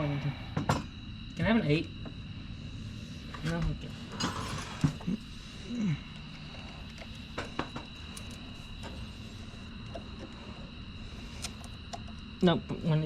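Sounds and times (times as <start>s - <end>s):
faint high whine: 0.0s - 13.0s
steady low hum: 0.0s - 13.0s.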